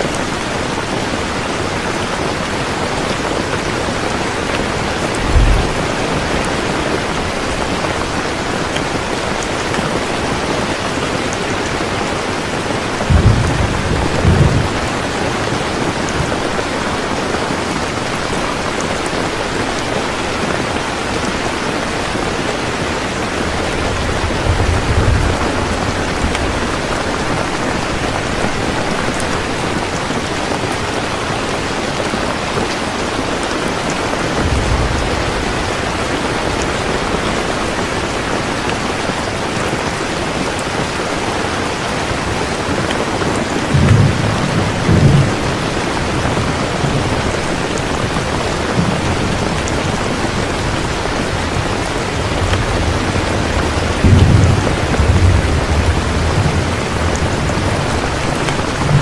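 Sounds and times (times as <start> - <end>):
heavy rain: 0.0 - 59.0
thunder rumbling: 0.3 - 17.4, 21.2 - 30.8, 33.7 - 40.0, 42.0 - 59.0.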